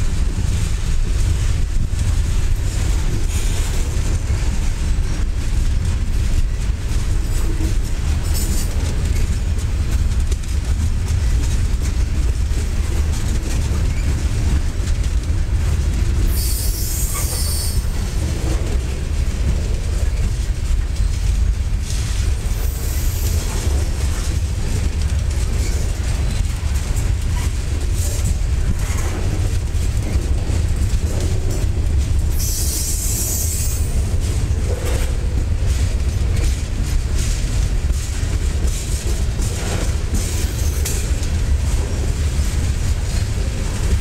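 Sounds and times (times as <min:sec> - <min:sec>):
rattling and clicks at rail joints: 0:00.0 - 0:44.0
train wheels rumbling on rails: 0:00.0 - 0:44.0.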